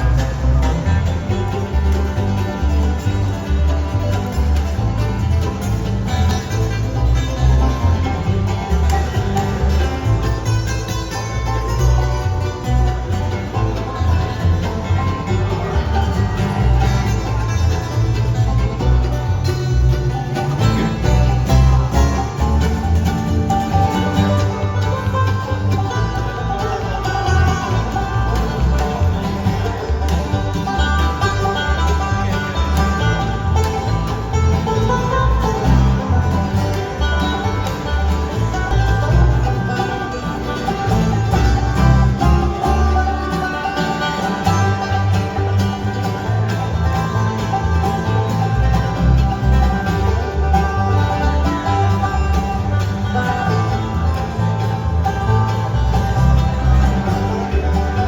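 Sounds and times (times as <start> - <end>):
plucked strings: 0.0 - 58.0
pulsing bass: 0.0 - 58.0.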